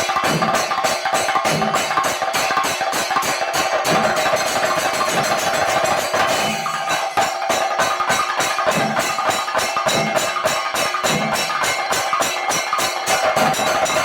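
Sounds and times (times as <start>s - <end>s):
drums beaten with sticks: 0.0s - 14.0s
hand cymbals ringing: 0.0s - 14.0s.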